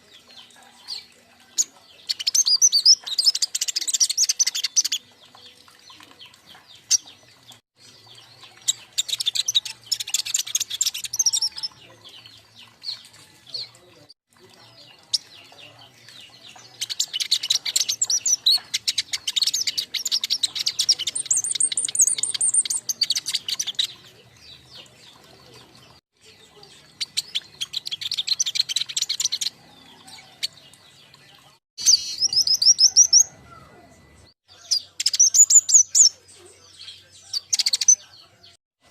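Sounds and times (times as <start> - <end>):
young songbirds chirping and trilling: 0.0 - 38.6.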